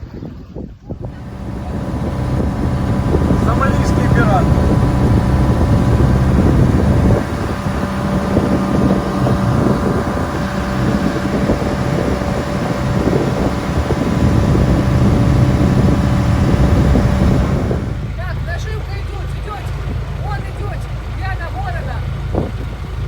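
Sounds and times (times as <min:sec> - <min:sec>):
wind noise on microphone: 0:00.0 - 0:18.3, 0:19.7 - 0:20.5, 0:22.0 - 0:23.0
motorboat engine running: 0:00.2 - 0:23.0.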